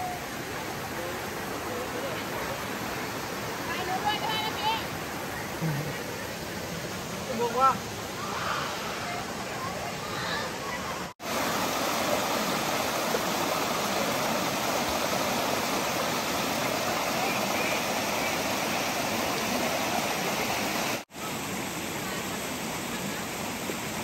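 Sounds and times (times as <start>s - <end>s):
waterfall rushing over rock: 0.0s - 10.0s, 10.6s - 24.0s.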